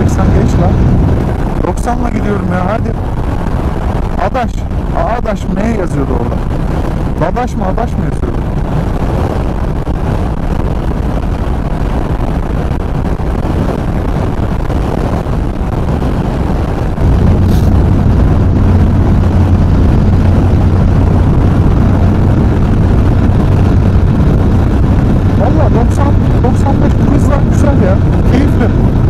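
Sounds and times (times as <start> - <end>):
deep steady hum: 0.0 - 29.0
motorcycle engine at speed: 0.0 - 29.0
wind rushing over microphone: 0.0 - 29.0.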